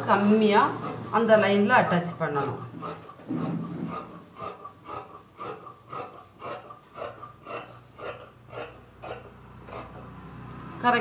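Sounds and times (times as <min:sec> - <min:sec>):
shears snipping fabric: 0:00.0 - 0:10.0.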